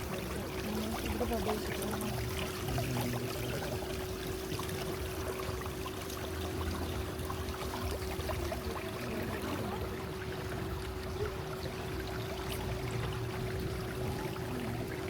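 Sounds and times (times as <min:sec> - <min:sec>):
boat motor hum: 0:00.0 - 0:15.0
water splashing along hull: 0:00.0 - 0:15.0.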